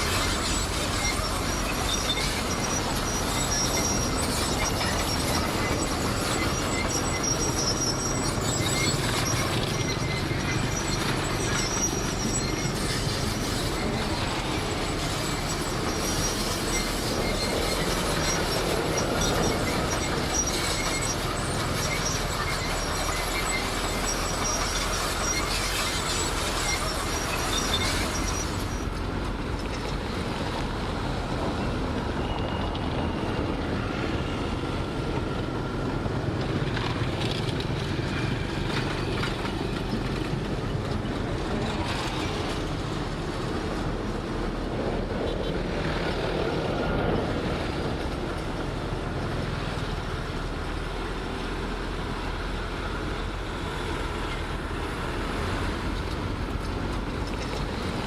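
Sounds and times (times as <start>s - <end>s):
diesel engine running: 0.0s - 58.0s
metallic track squeals: 0.0s - 58.0s
steel tracks clattering: 0.0s - 58.0s.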